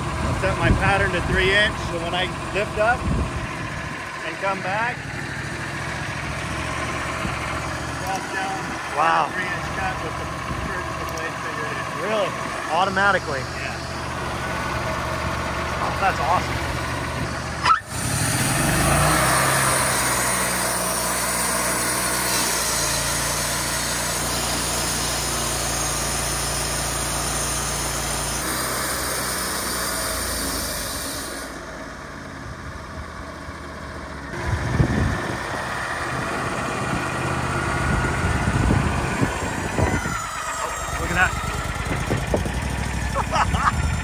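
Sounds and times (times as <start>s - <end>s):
sawmill engine running: 0.0s - 44.0s.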